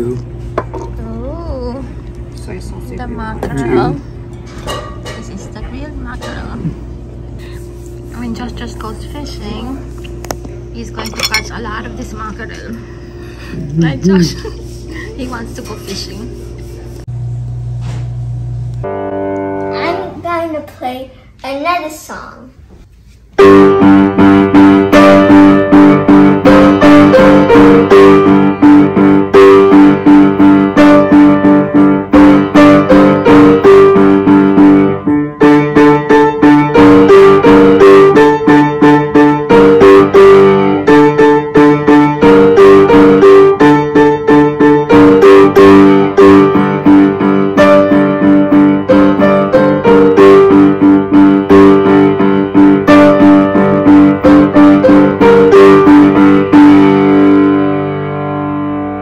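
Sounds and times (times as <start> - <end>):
upright piano playing: 0.0 - 10.0, 10.6 - 16.8, 18.8 - 20.8, 23.4 - 59.0.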